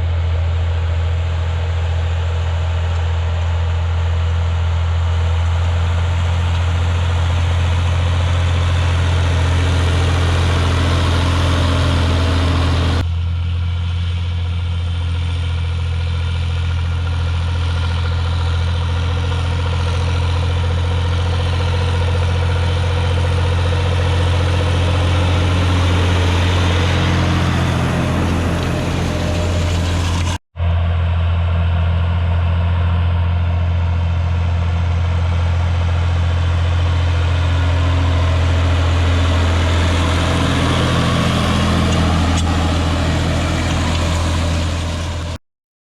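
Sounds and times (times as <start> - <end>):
tractor diesel engine under load: 0.0 - 45.4.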